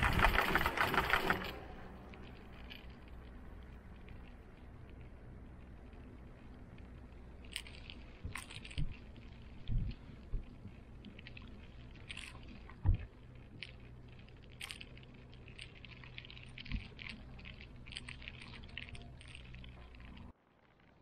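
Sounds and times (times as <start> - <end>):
cable car cabin hum: 0.0 - 20.3
light ticks and rattles: 0.0 - 20.8.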